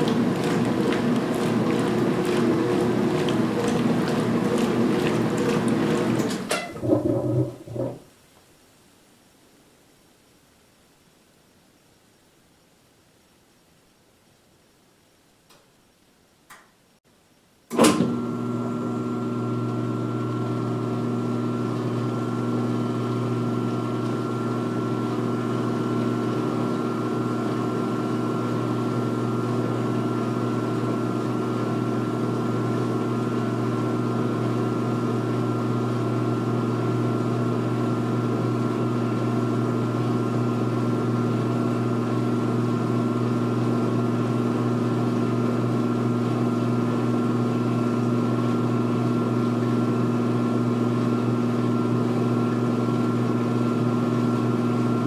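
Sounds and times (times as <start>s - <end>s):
washer motor and pump humming: 0.0s - 8.0s, 17.7s - 55.0s.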